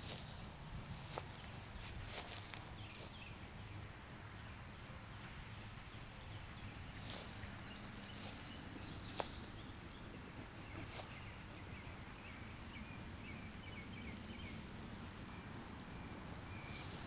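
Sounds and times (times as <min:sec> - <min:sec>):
soft steady hiss: 0:00.0 - 0:17.0.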